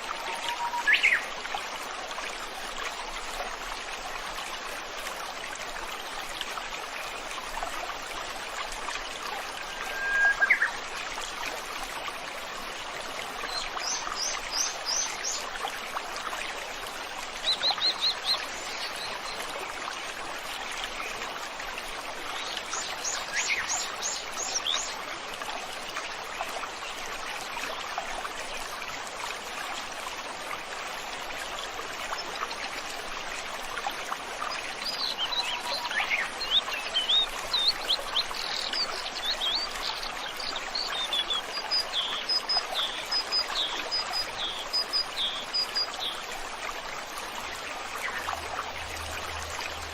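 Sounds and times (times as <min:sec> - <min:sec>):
river flowing: 0:00.0 - 0:49.9.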